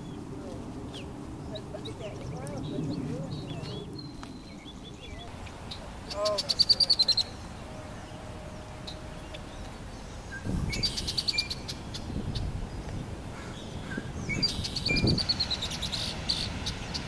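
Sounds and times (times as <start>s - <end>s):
songbird trilling: 0.9s - 17.0s.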